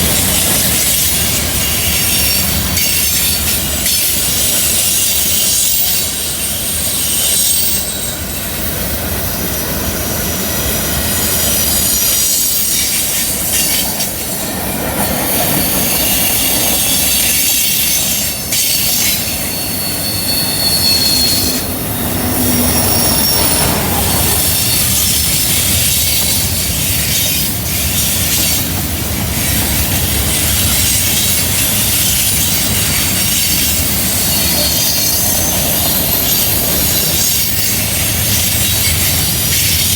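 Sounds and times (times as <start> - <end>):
train cars rumbling: 0.0 - 39.9
wheel flanges squealing on rail: 0.0 - 39.9.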